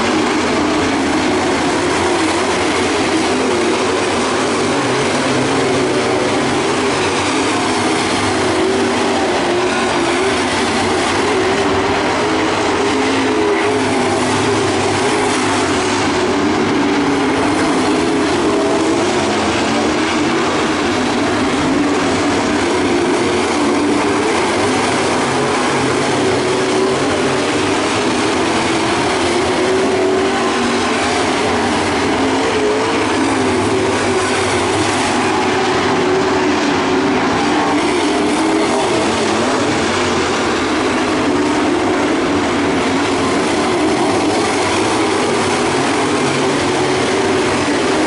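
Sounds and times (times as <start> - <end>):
race car engines roaring: 0.0 - 48.0.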